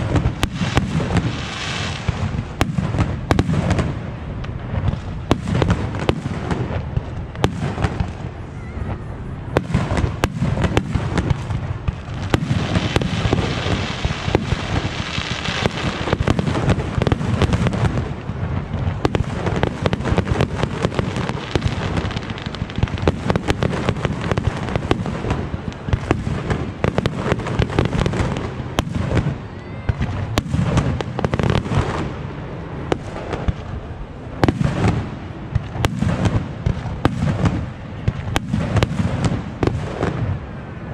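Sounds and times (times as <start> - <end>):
fireworks popping and banging: 0.0 - 40.5
fireworks hissing crackle: 0.0 - 40.9.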